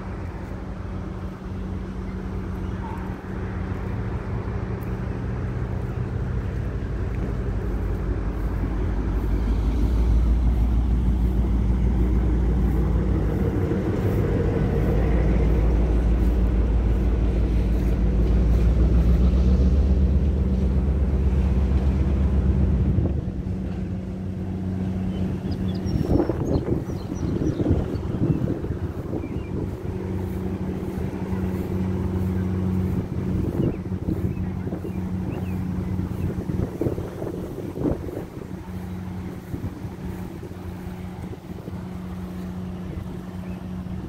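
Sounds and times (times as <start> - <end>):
engine rumble: 0.0 - 44.0.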